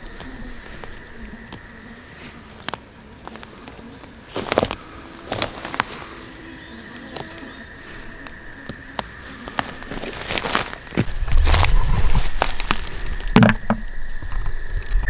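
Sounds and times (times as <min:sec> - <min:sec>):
footsteps in forest plants: 0:00.0 - 0:15.0
stems and leaves crackling: 0:00.0 - 0:15.0
toads trilling: 0:00.0 - 0:15.0.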